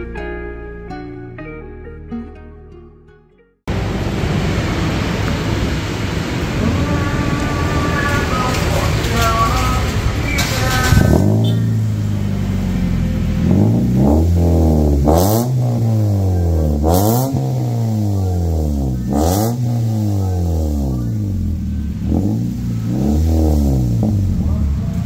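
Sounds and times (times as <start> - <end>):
car engine idling and revving: 3.7 - 25.0.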